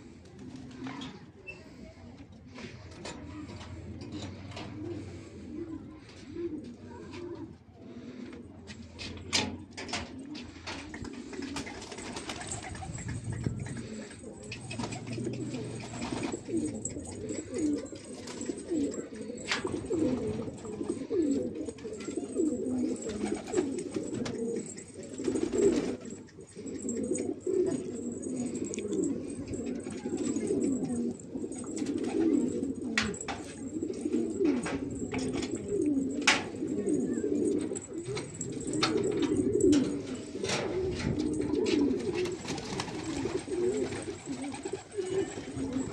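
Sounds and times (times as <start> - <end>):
pigeons cooing: 0.0 - 45.9.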